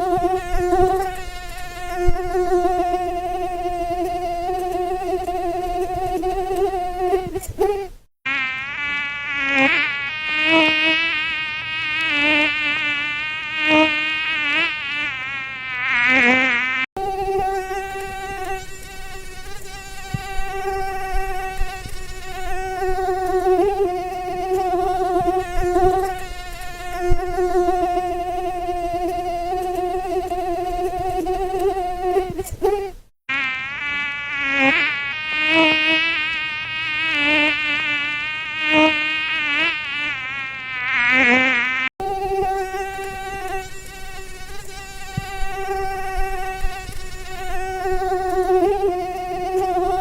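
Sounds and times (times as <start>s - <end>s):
mosquito whine: 0.0s - 50.0s.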